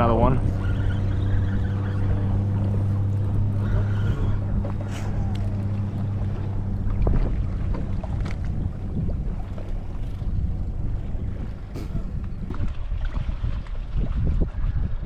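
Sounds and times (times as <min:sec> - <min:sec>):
boat motor humming: 0:00.0 - 0:14.2.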